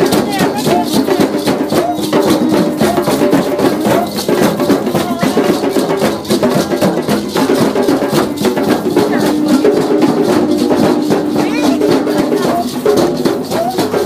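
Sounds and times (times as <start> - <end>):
group hand drumming: 0.0 - 14.0.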